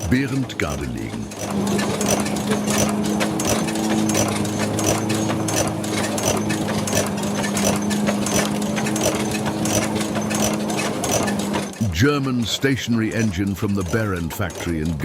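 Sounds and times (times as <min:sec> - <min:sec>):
gas engine running: 0:00.0 - 0:15.0
regular engine clicking: 0:00.0 - 0:15.0.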